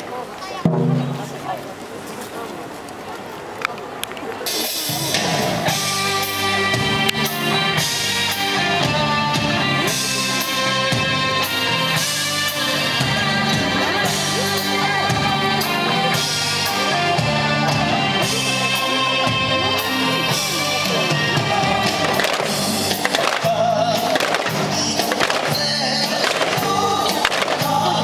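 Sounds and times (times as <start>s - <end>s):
full-band dance music: 4.4s - 28.0s.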